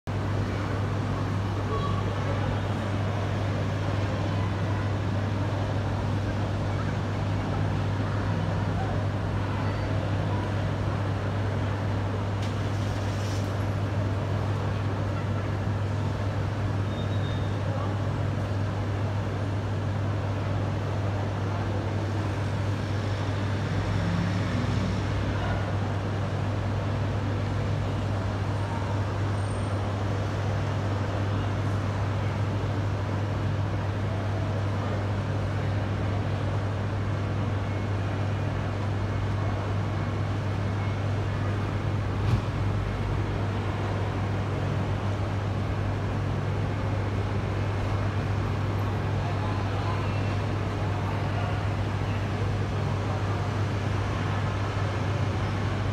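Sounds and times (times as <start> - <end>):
outdoor background noise: 0.0 - 55.9
traffic-like rumble and hum: 0.0 - 55.9.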